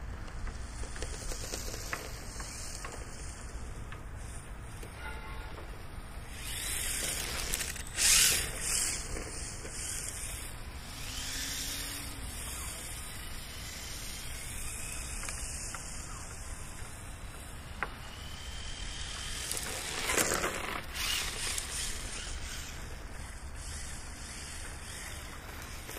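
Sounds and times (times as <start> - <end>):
rc car electric motor whining: 0.6 - 5.0, 6.1 - 25.9.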